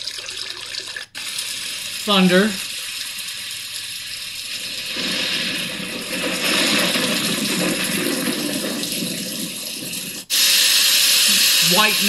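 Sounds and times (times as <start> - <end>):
white noise hiss: 1.2 - 12.0.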